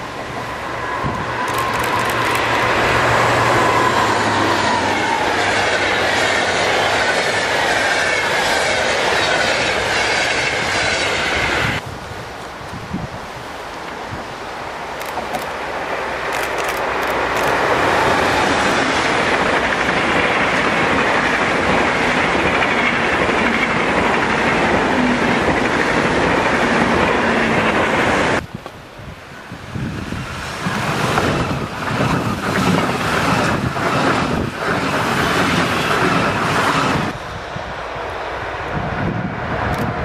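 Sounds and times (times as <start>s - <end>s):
high-speed train passing: 0.0s - 40.0s
wind gusting on microphone: 0.0s - 40.0s.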